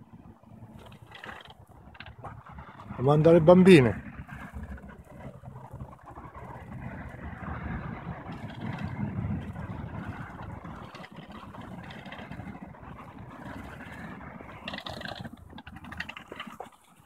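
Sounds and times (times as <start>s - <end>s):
olive harvester shaking branches: 0.0s - 17.0s.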